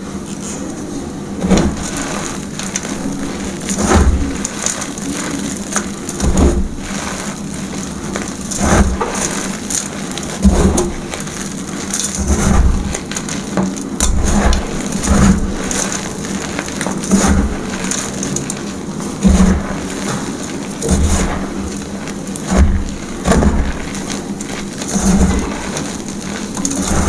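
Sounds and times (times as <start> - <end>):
chalk crunching by hand: 0.2 - 27.0.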